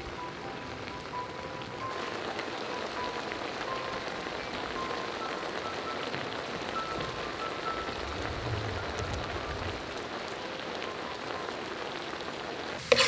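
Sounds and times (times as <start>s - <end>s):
beetroot simmering in a wok: 0.0s - 13.0s.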